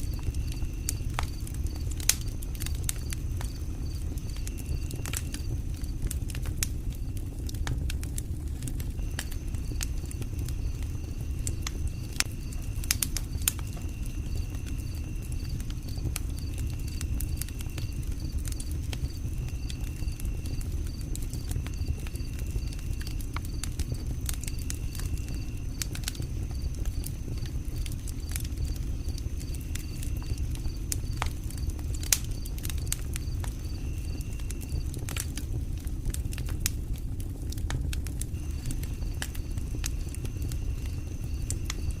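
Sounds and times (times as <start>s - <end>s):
campfire crackling: 0.0s - 42.0s
fire popping: 0.0s - 42.0s.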